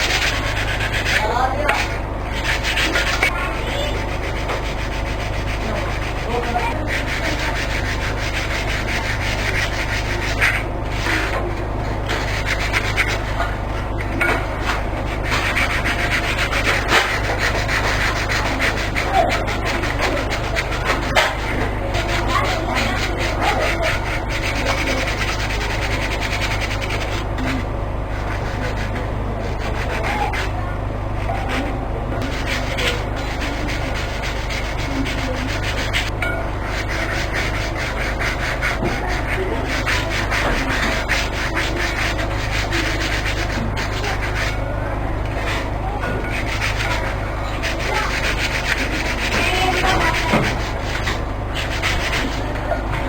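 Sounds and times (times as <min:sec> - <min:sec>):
abrading strokes on wood: 0:00.0 - 0:53.0
hand sanding wood: 0:00.0 - 0:53.0.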